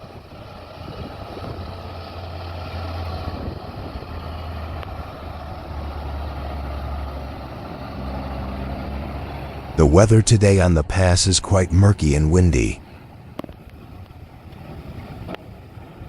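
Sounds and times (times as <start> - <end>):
truck diesel engine drone: 0.0 - 13.2.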